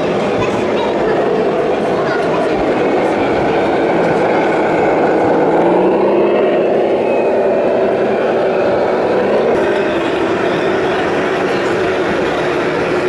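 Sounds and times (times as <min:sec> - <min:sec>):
simulated diesel truck engine: 0:00.0 - 0:13.0.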